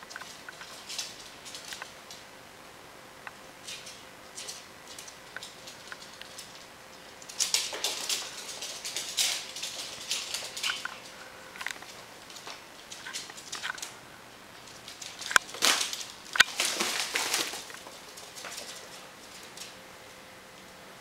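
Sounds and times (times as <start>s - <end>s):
claws skittering on wooden floor: 0.0s - 2.3s, 3.6s - 19.8s.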